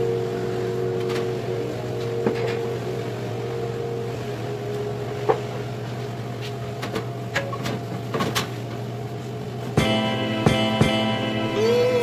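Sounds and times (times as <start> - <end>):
vending machine humming: 0.0 - 12.0.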